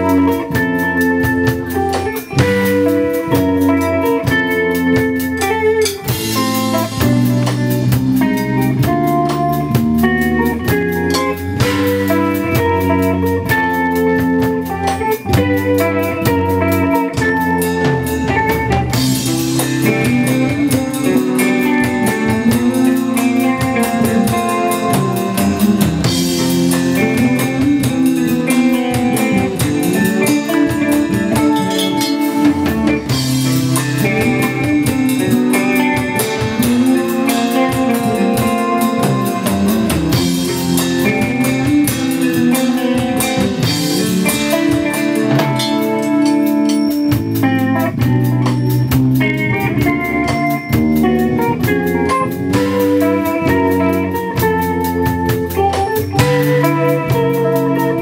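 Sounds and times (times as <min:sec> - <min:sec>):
bass: 0:00.0 - 0:58.0
drum kit with cymbals: 0:00.0 - 0:58.0
electric guitar: 0:00.0 - 0:58.0.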